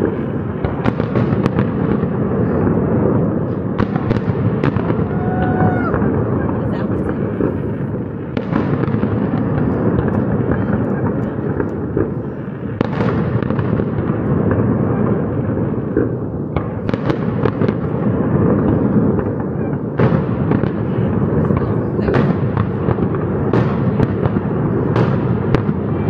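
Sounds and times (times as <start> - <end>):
fireworks booming and crackling: 0.0 - 26.0
sharp firework bangs: 0.0 - 26.0.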